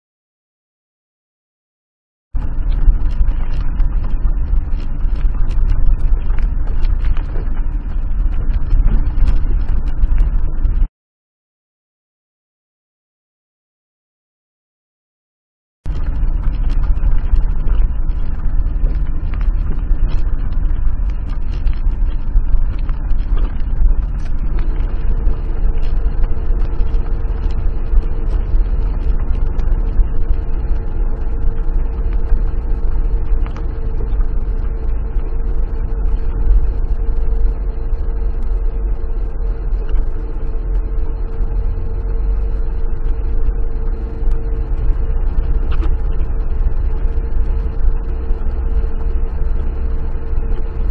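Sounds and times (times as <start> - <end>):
car engine and road rumble: 2.4 - 10.9, 15.9 - 50.9
steady whine: 2.4 - 10.9, 15.9 - 50.9.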